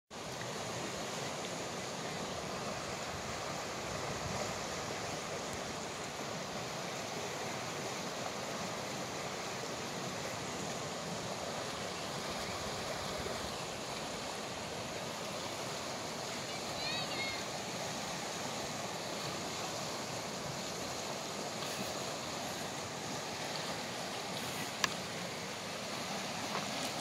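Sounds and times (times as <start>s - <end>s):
river rapids rushing: 0.2s - 27.0s.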